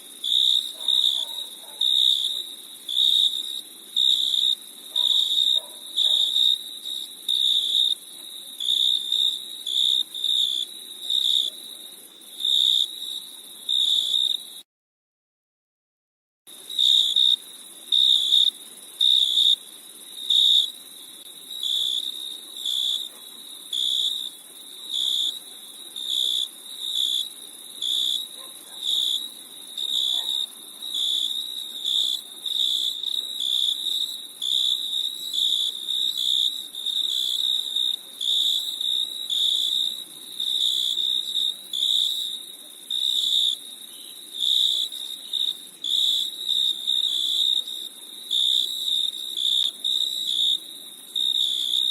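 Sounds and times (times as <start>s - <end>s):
crickets chirping: 0.0s - 14.6s, 16.5s - 51.9s.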